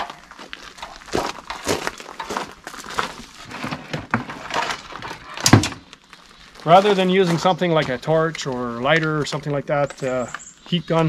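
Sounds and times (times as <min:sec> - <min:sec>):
plastic tubing crinkling and rustling: 0:00.0 - 0:09.4.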